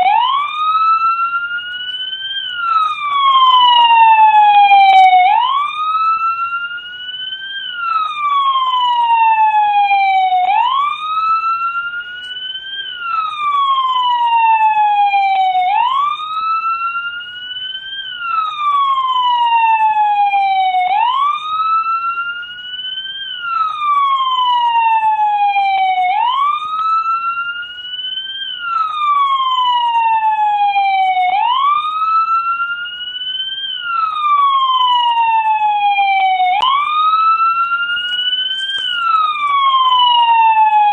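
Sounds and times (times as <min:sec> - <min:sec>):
police siren wailing: 0:00.0 - 0:40.9.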